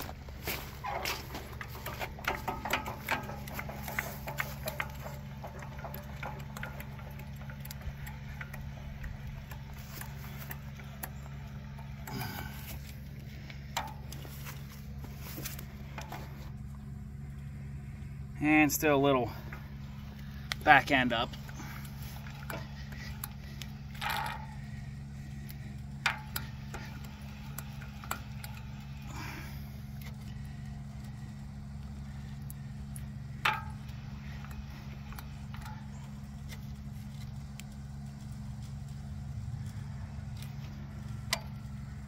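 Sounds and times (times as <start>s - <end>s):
engine humming: 0.0s - 42.0s.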